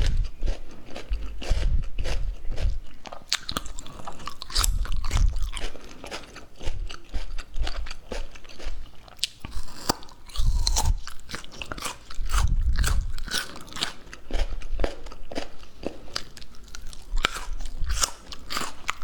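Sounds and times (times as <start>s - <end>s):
crunchy biting and chewing: 0.0s - 19.0s.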